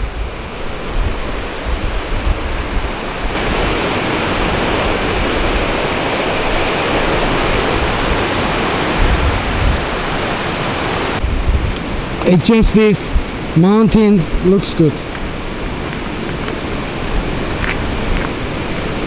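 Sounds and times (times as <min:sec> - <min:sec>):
stream rushing over boulders: 0:00.0 - 0:19.0.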